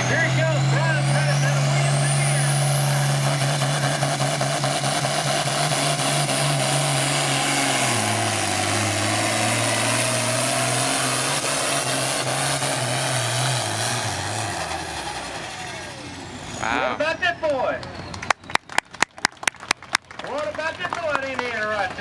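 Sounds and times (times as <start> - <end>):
engine running hard under load: 0.0 - 18.6.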